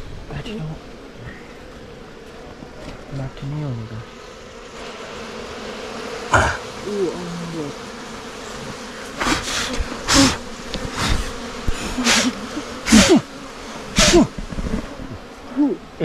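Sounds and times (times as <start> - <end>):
bee flying close past: 0.0 - 16.0
honey bees buzzing: 0.0 - 16.0.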